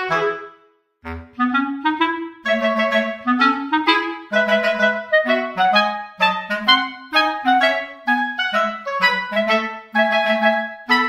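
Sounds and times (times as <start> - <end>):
lively wind instrument melody: 0.0 - 11.0.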